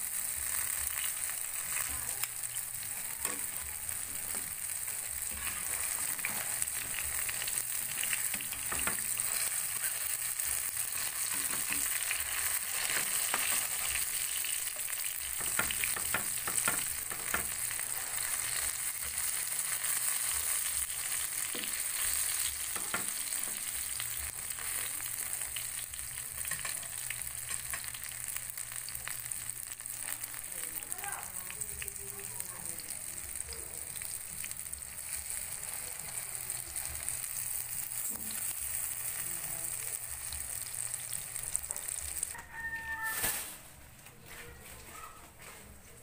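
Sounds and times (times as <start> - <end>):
food sizzling in oil: 0.0 - 43.5.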